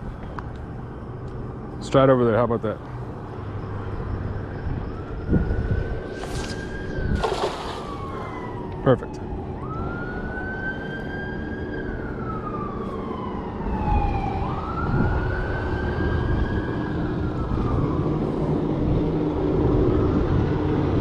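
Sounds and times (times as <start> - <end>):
siren wailing: 3.4 - 21.0.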